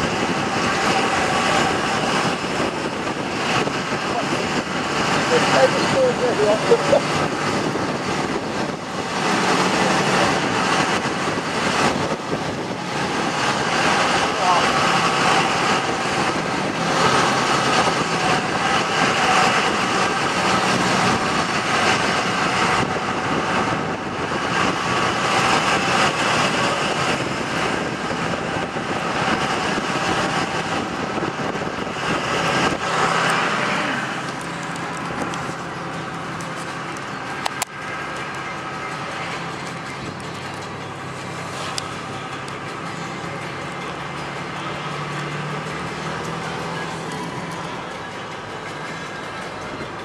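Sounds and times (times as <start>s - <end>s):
truck driving noise: 0.0s - 50.0s.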